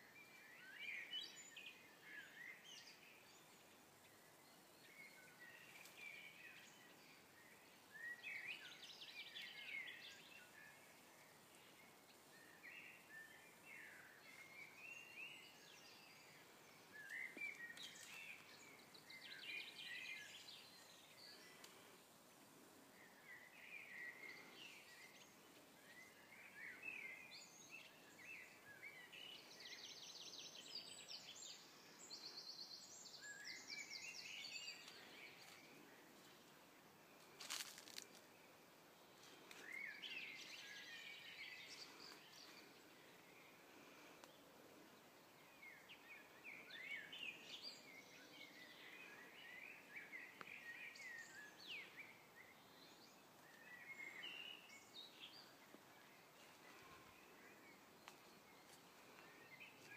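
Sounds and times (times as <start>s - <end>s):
quiet outdoor hiss: 0.0s - 59.9s
songbirds warbling and trilling: 0.0s - 59.9s.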